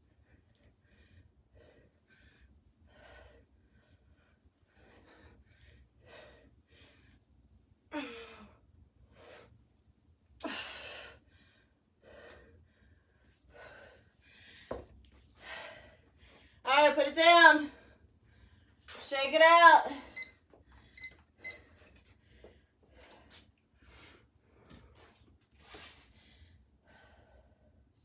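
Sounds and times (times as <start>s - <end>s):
woman breathing heavily: 0.0s - 9.6s, 10.4s - 16.7s, 17.6s - 18.9s, 19.8s - 28.0s.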